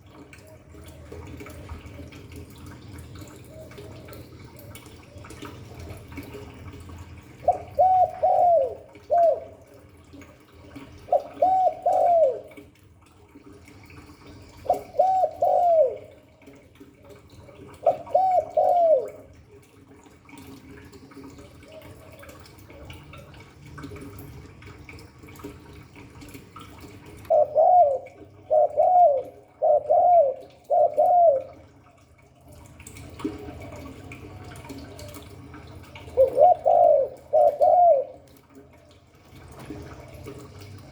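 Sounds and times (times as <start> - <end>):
dove cooing: 0.0 - 12.8, 13.6 - 19.8, 20.7 - 24.0, 27.0 - 40.9
low steady hum: 0.0 - 40.9.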